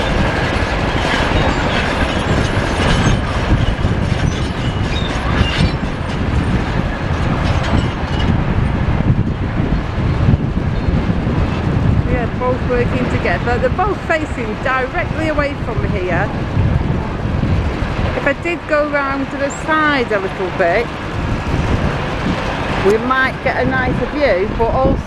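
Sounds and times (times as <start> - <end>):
excavator diesel engines rumbling: 0.0 - 25.0.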